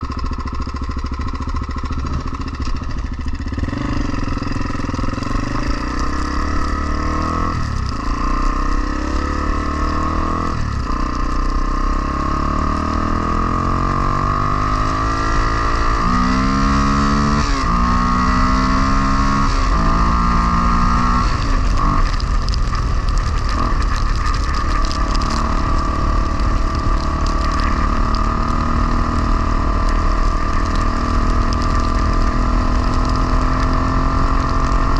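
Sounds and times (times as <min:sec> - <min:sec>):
dirt bike engine revving: 0:03.2 - 0:34.9.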